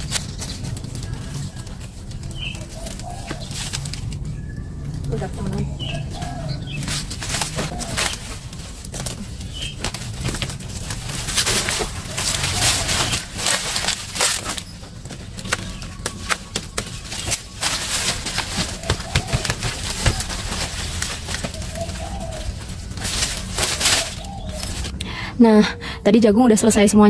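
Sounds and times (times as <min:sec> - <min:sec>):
corn stalks rustling and crackling: 0:00.0 - 0:25.0
dove cooing: 0:00.0 - 0:26.0.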